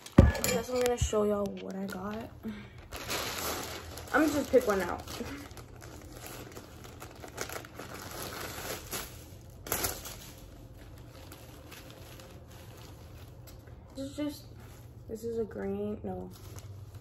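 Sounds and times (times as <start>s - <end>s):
plastic packaging crinkling: 0.0s - 15.0s, 16.1s - 17.0s.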